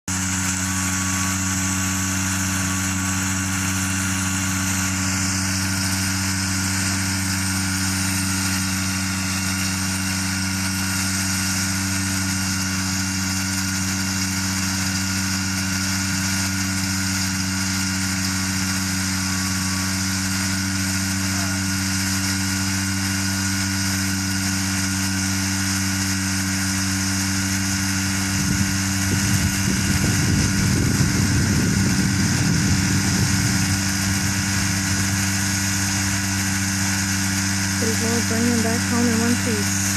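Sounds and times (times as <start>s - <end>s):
engine idling with propeller turning: 0.1s - 39.9s.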